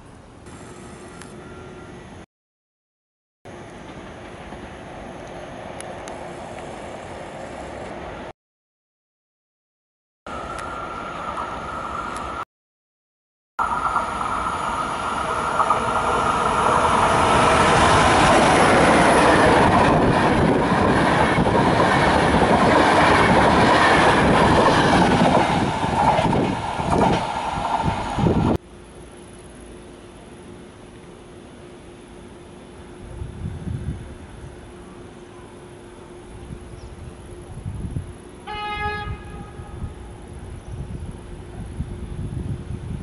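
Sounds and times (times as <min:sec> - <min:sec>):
train passing at speed: 0:00.4 - 0:02.3, 0:03.5 - 0:08.3, 0:10.3 - 0:12.4, 0:13.6 - 0:43.0.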